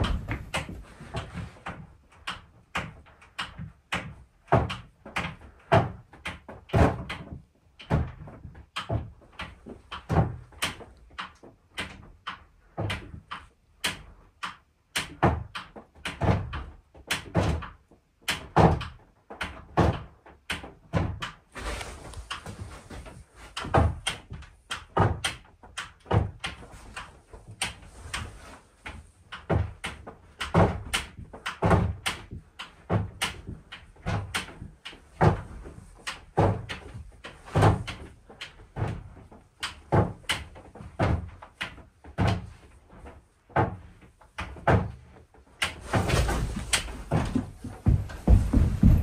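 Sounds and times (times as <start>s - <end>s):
heavy wooden knocks and thuds: 0.0s - 10.9s, 15.0s - 49.0s.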